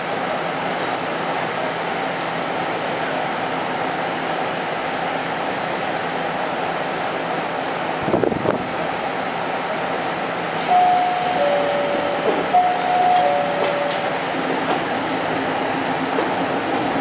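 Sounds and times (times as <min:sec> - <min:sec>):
diesel railcar engine idling: 0:00.0 - 0:17.0.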